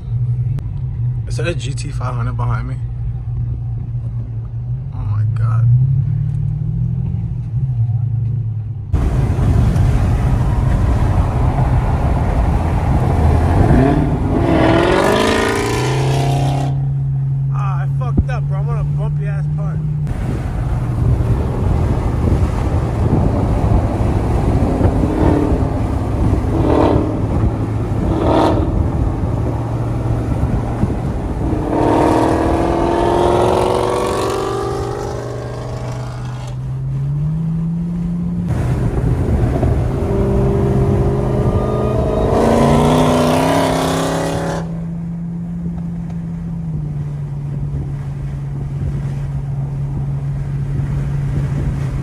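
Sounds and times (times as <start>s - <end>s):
car engine droning: 0.0s - 52.0s
car exhaust revving: 8.7s - 52.0s.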